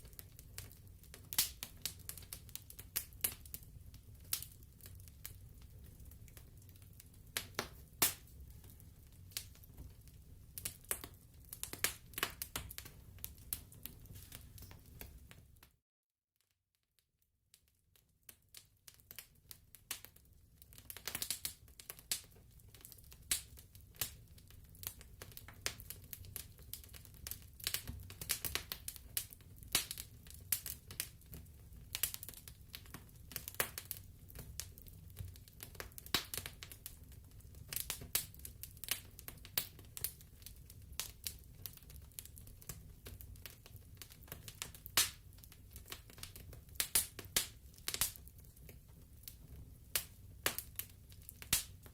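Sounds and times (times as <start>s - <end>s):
wood fire crackling and popping: 0.0s - 15.7s, 18.3s - 51.9s.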